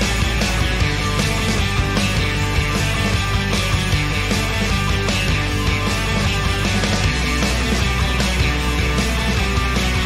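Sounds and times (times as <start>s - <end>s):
rock music with drum beat: 0.0s - 10.0s.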